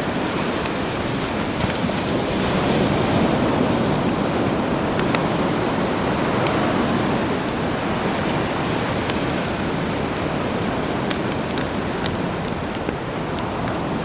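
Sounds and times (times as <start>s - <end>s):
campfire crackling and popping: 0.0s - 14.0s
sea waves washing on shore: 0.0s - 14.0s.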